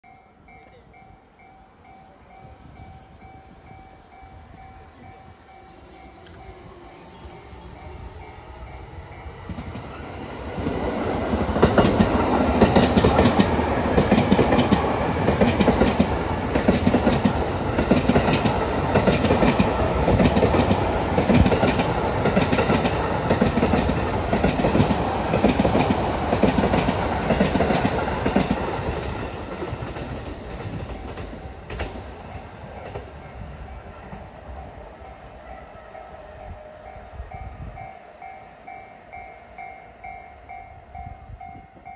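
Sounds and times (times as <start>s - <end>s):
electric train accelerating past: 0.0s - 41.9s.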